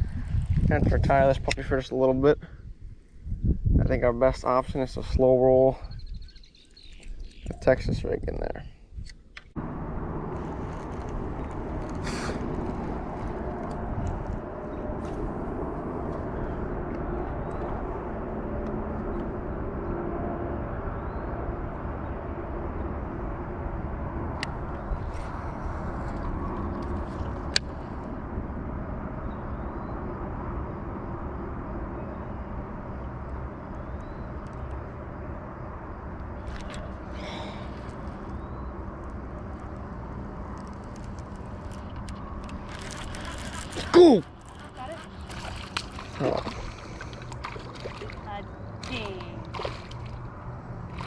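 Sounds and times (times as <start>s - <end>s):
low rumbling outdoor noise: 0.0s - 51.0s.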